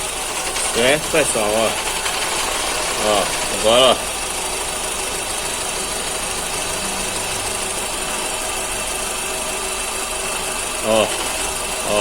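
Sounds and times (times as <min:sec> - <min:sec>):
car engine idling with misfire: 0:00.0 - 0:12.0.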